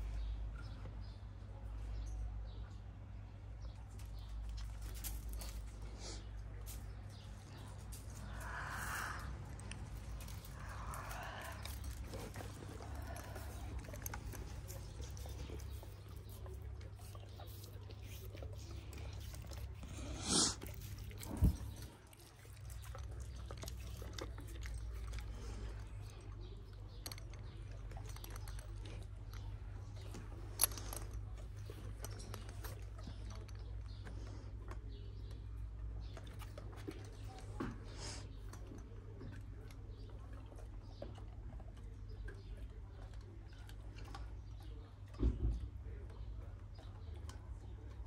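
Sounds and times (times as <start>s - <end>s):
steady low hum: 0.0s - 40.5s
dogs chewing: 3.6s - 48.0s.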